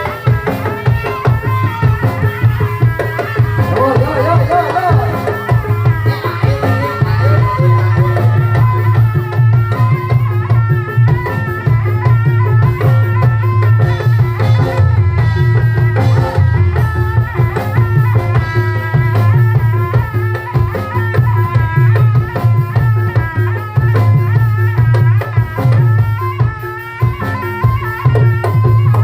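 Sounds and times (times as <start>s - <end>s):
wavering melody: 0.0s - 23.3s
drums and rattling percussion: 0.0s - 29.0s.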